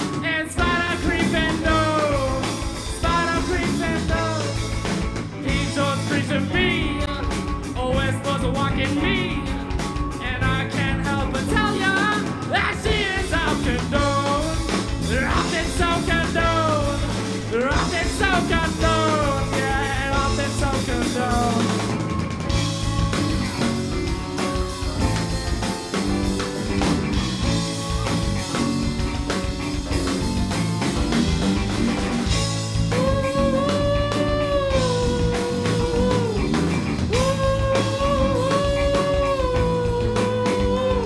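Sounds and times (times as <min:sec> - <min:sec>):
bass guitar: 0:00.0 - 0:41.0
bending lead guitar line: 0:00.0 - 0:41.0
drum kit: 0:00.0 - 0:41.0.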